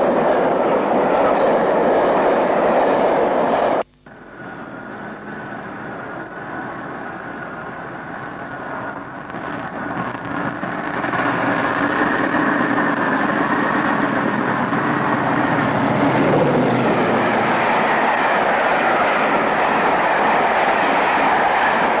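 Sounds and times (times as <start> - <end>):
diesel locomotive passing: 0.0 - 3.8, 8.1 - 22.0.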